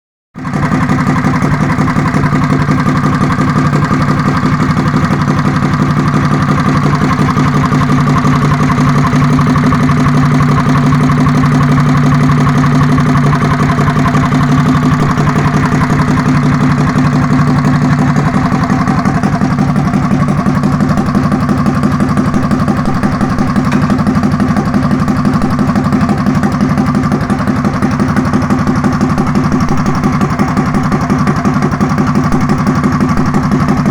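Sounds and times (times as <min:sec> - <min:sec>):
mini bike engine idling: 0:00.4 - 0:33.9.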